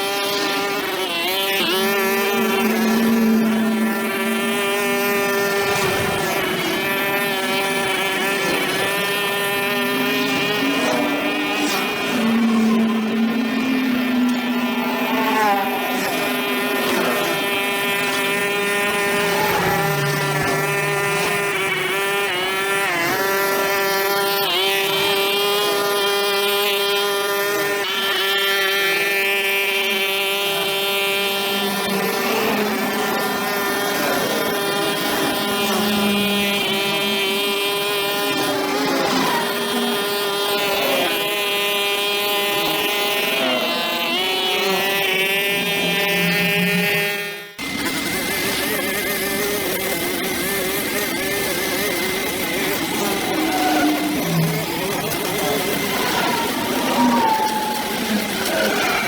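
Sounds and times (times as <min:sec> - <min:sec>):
brush cutter engine running: 0:00.0 - 0:59.0.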